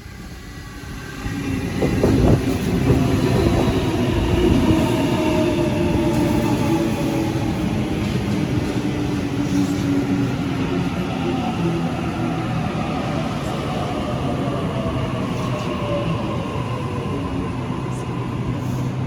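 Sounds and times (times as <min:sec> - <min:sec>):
wheels rumbling on rail: 0:00.8 - 0:19.0.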